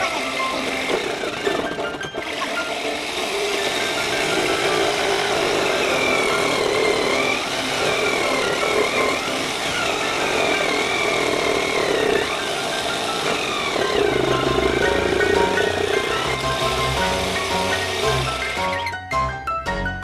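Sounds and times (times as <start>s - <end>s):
electric jigsaw cutting wood: 0.0s - 18.8s.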